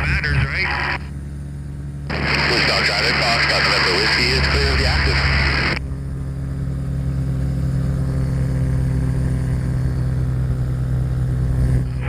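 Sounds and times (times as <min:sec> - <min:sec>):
ultralight aircraft engine droning: 0:00.0 - 0:12.0.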